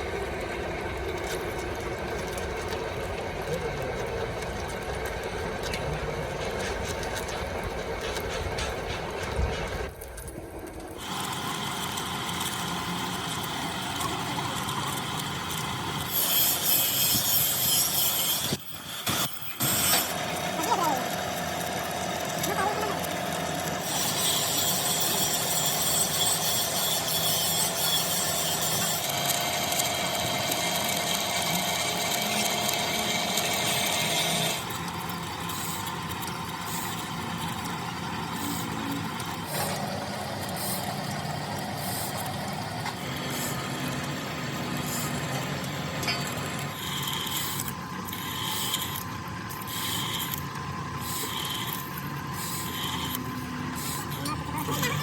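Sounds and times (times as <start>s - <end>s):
machine shop machinery running: 0.0s - 55.0s.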